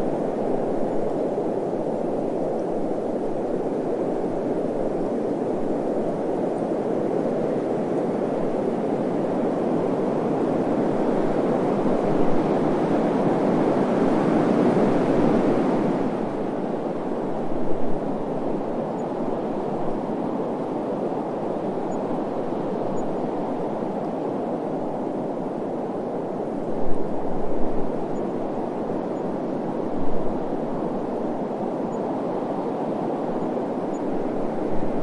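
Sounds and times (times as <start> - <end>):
desert wind rushing: 0.0 - 35.0.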